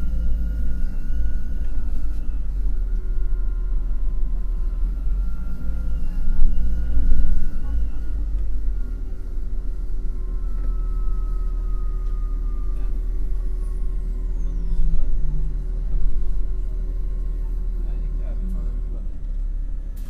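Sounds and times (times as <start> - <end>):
faint high whistle gliding down: 0.0 - 17.8
bus engine low rumble: 0.0 - 20.0.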